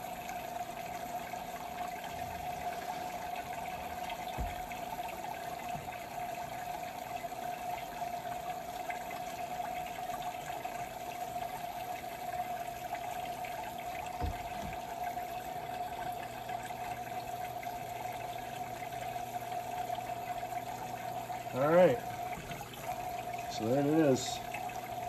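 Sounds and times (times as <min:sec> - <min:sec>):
pump humming: 0:00.0 - 0:25.0
water splashing and trickling: 0:00.0 - 0:25.0.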